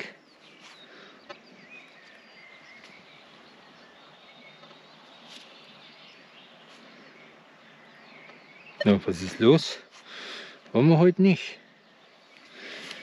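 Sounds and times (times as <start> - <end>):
distant birds chirping: 0.0 - 13.0.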